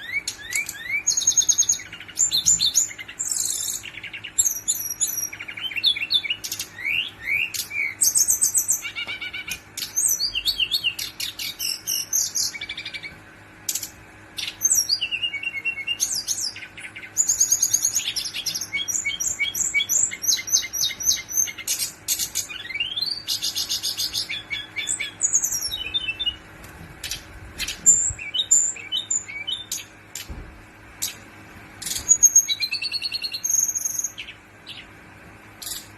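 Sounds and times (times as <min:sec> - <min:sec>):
bird singing rolling phrases: 0:00.0 - 0:35.9.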